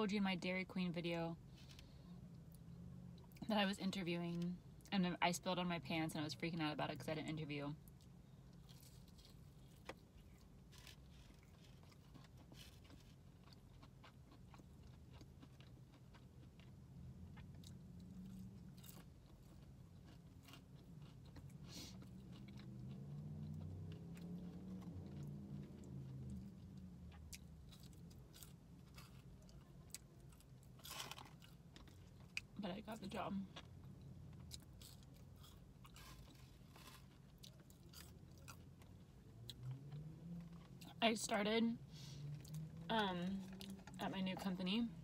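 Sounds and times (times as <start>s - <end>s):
chewing fried chicken: 7.0s - 41.0s, 42.0s - 44.9s.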